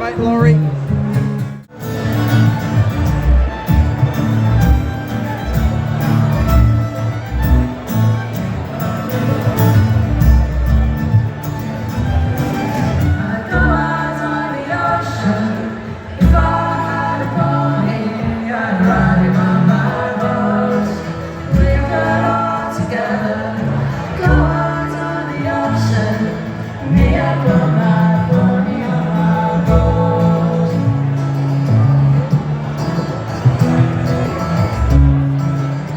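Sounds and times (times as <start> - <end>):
bass notes: 0.0 - 15.4, 16.2 - 20.7, 21.4 - 22.6, 23.7 - 35.9
band with singer: 0.0 - 35.9.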